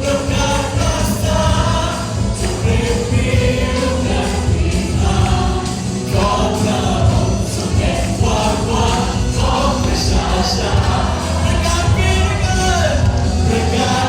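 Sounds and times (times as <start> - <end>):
band with heavy bass: 0.0 - 14.0
group of voices singing: 0.0 - 14.0.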